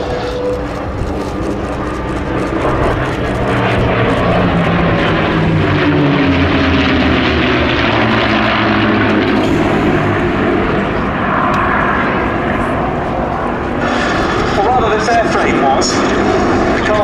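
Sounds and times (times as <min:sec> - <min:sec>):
aircraft engines passing overhead: 0:00.0 - 0:17.0.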